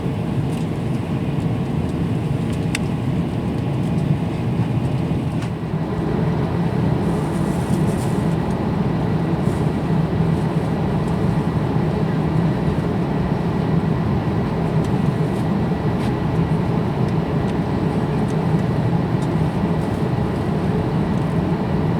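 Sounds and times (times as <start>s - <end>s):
airplane cabin engine drone: 0.0s - 21.9s.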